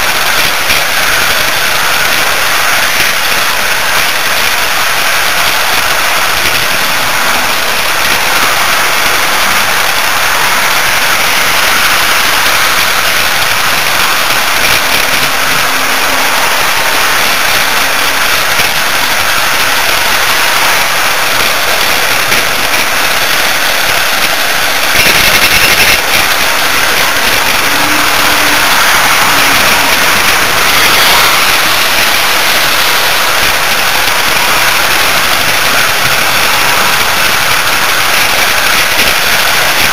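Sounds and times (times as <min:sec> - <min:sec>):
model train motor: 0:00.0 - 0:39.9
model train wheels on rails: 0:00.0 - 0:39.9.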